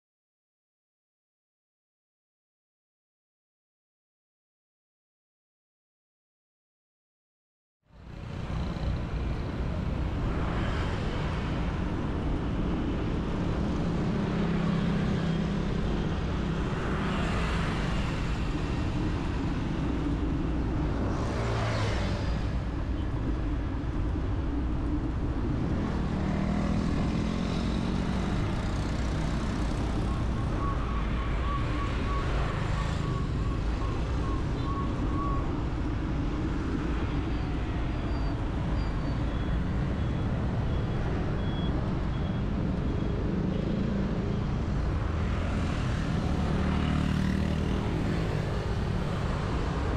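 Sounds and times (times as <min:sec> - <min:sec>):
vehicles passing by: 0:08.0 - 0:49.9.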